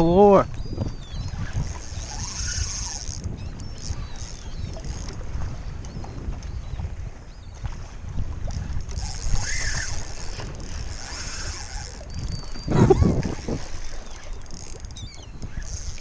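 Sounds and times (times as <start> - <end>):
seabird calls: 0.0 - 16.0
wind: 0.0 - 16.0.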